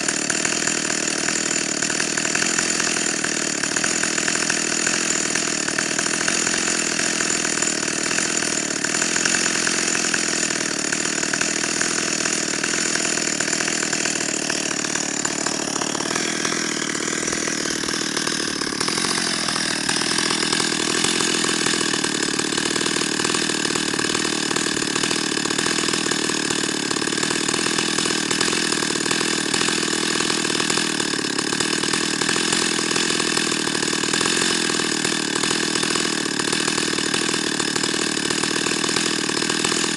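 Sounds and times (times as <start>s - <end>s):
chainsaw idling: 0.0s - 39.9s.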